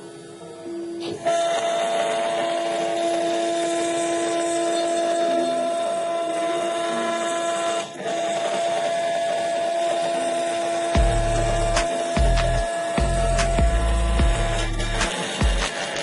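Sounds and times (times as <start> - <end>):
router spindle whining: 0.0 - 16.0.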